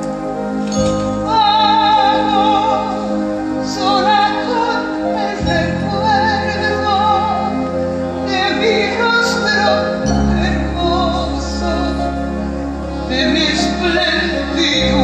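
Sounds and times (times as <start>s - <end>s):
orchestral backing: 0.0s - 15.0s
person singing ballad with vibrato: 0.0s - 15.0s.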